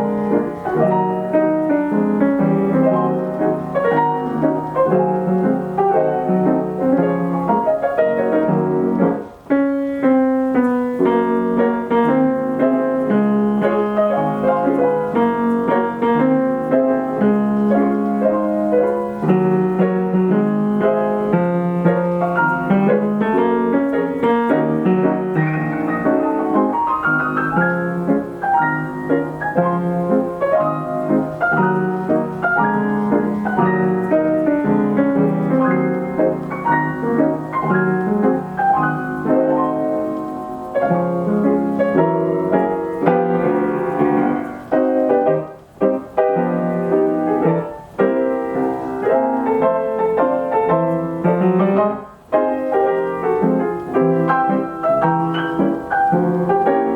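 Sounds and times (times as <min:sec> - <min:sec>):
player piano playing: 0:00.0 - 0:56.9.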